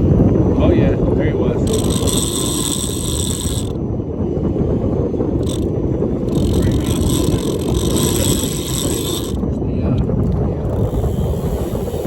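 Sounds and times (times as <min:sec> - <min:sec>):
wind buffeting microphone: 0:00.0 - 0:12.0
high whirring: 0:00.5 - 0:04.0, 0:05.2 - 0:12.0.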